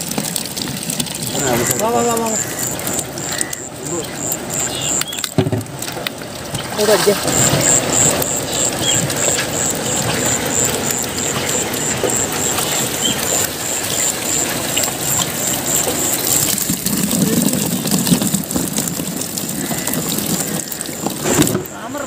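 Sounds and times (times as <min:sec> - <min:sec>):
water splashing and streaming: 0:00.0 - 0:22.0.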